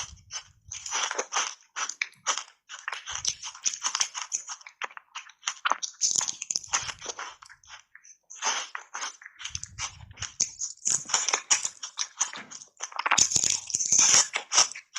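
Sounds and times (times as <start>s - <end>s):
crunching and chewing ice: 0.0s - 14.9s.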